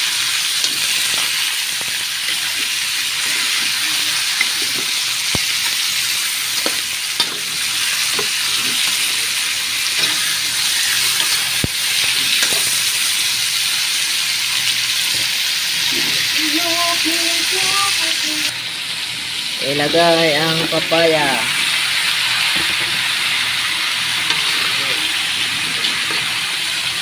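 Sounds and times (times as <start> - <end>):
chicken sizzling in a pan: 0.0 - 27.0.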